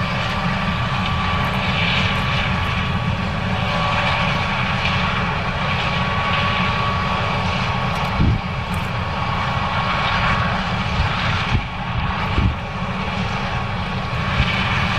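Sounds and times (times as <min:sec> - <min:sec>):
combine harvester running: 0:00.0 - 0:14.9.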